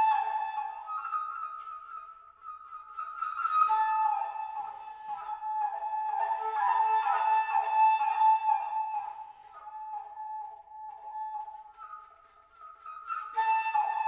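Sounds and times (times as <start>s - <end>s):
solo flute playing: 0.0s - 14.0s.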